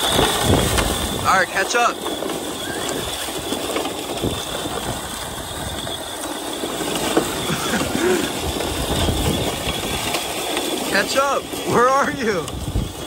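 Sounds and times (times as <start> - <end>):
rc truck drivetrain whirring: 0.0 - 13.0
tyres crunching on gravel: 0.0 - 13.0.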